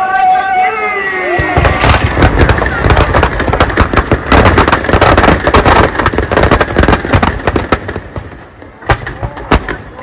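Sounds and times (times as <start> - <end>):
firecrackers banging: 0.0 - 10.0.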